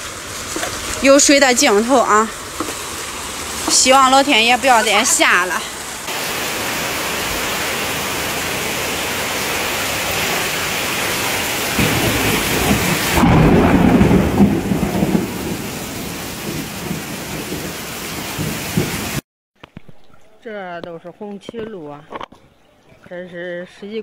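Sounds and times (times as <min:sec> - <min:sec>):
heavy rain pouring on water: 0:00.0 - 0:19.2.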